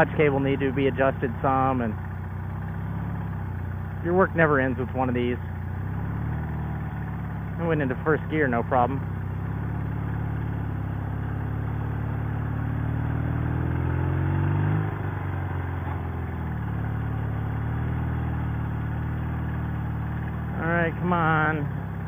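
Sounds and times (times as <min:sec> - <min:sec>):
motorcycle engine pulling away: 0:00.0 - 0:22.0.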